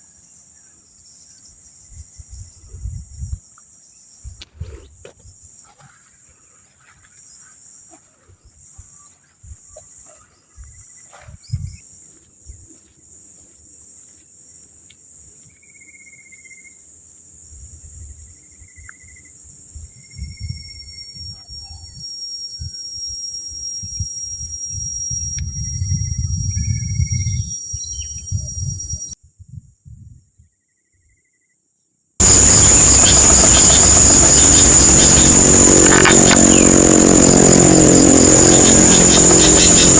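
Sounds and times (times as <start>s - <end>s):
crickets and insects droning: 0.0s - 29.2s, 32.2s - 39.9s.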